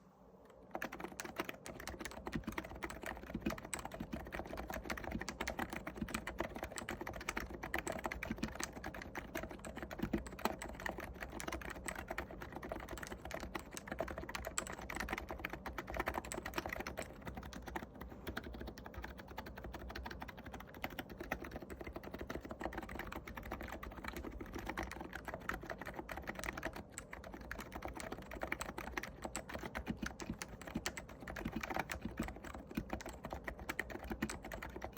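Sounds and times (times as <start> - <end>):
fast keyboard typing: 0.6 - 34.9.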